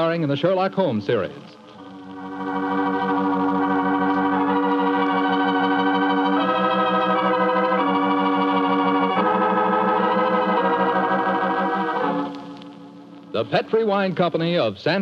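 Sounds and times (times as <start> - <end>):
organ chords with tremolo: 0.0 - 15.0.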